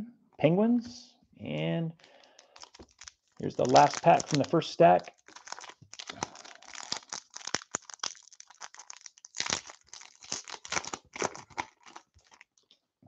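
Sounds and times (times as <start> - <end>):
foil wrapper crinkling: 2.0 - 12.7.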